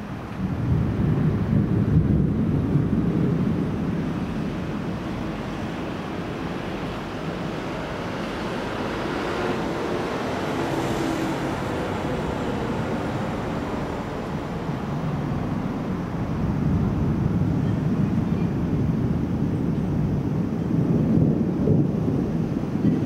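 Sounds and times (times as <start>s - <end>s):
distant thunder roll: 0.0s - 23.0s
wind noise on microphone: 0.0s - 23.0s.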